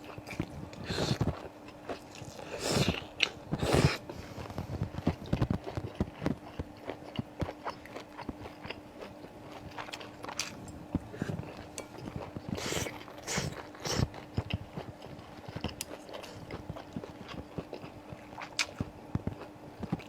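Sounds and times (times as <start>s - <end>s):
faint steady hum: 0.0s - 20.0s
wet chewing and biting: 0.0s - 20.0s.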